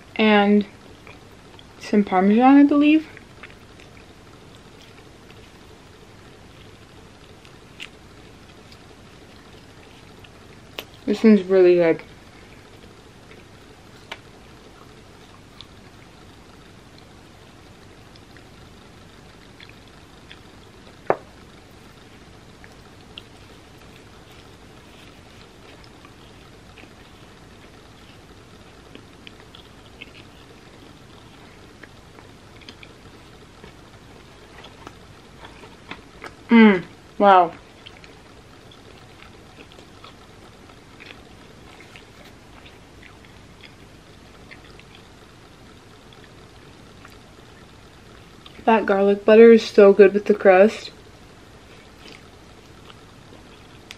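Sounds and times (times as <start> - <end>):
faint steady hiss: 0.0 - 53.9
chewing with wet clicks: 0.9 - 1.8, 3.1 - 11.1, 12.0 - 21.0, 21.6 - 36.5, 37.5 - 48.6, 51.6 - 53.9.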